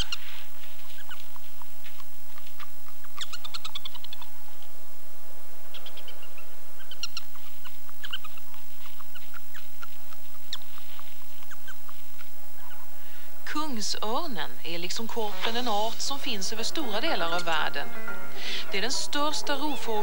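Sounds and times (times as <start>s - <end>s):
prairie dogs chirping: 0.0s - 20.0s.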